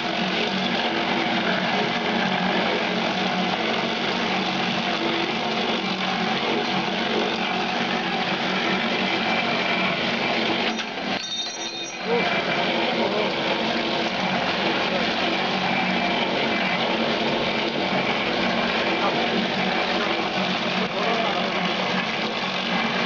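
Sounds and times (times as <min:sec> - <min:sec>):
dough mixing machine motor hum: 0:00.0 - 0:11.2, 0:11.9 - 0:23.0.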